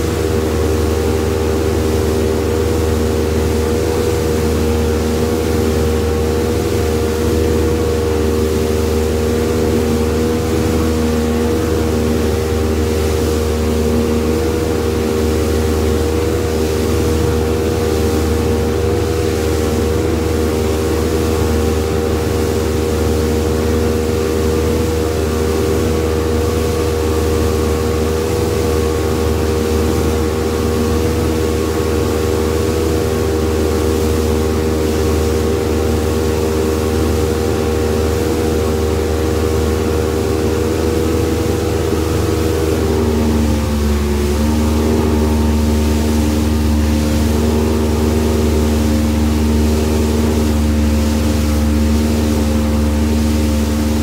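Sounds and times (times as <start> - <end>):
outboard motor running flat out: 0.0 - 54.0.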